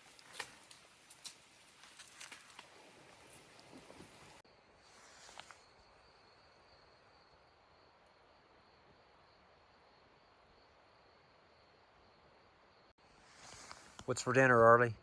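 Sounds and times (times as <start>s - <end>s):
crickets trilling: 0.1s - 13.8s.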